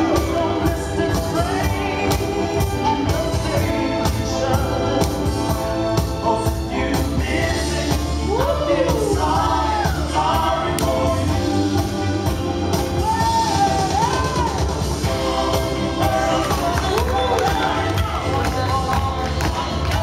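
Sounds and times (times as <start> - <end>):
loud dance music: 0.0 - 20.0
person singing: 0.0 - 20.0.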